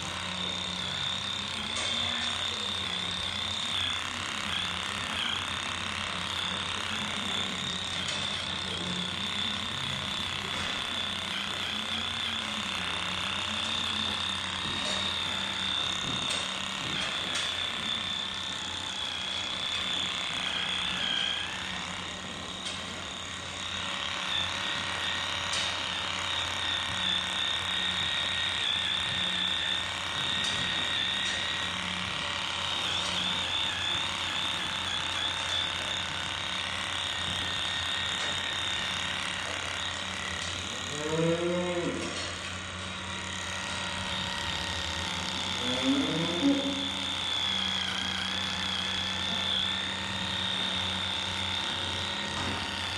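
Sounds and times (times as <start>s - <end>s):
electric clippers buzzing: 0.0s - 52.9s.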